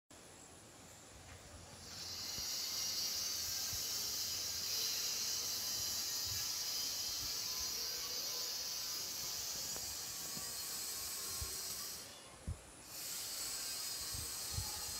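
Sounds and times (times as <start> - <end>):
high-pitched insect drone: 1.7 - 14.9.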